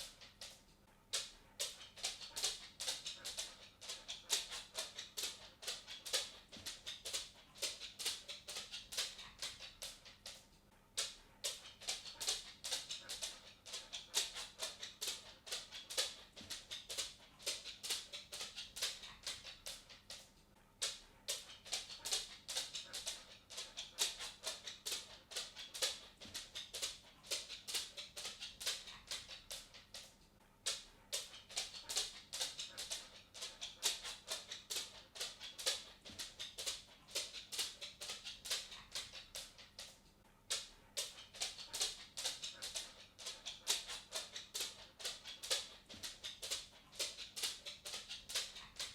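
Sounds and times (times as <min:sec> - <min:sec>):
dog claws clicking on wooden floor: 0:00.0 - 0:48.9.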